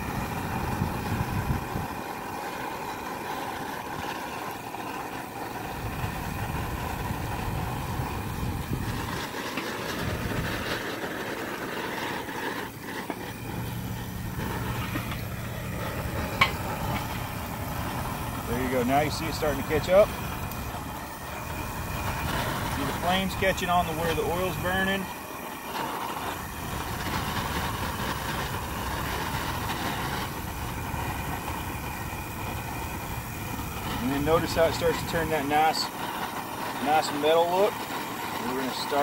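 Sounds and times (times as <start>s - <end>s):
propane burner roaring: 0.0s - 39.0s.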